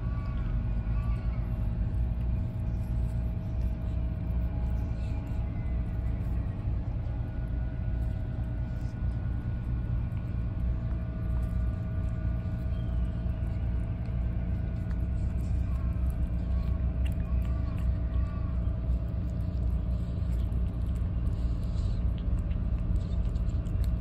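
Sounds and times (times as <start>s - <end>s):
faint even hum: 0.0s - 24.0s
steady low rumble: 0.0s - 24.0s.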